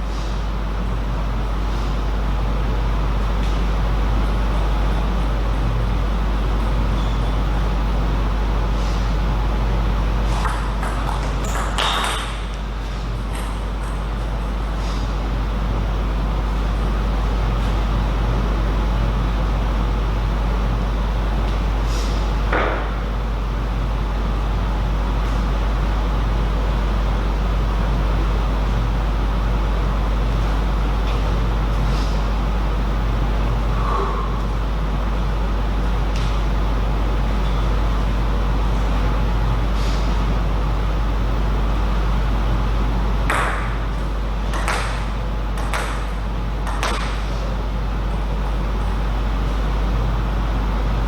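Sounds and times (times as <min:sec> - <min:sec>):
low hum and hiss: 0:00.0 - 0:51.0.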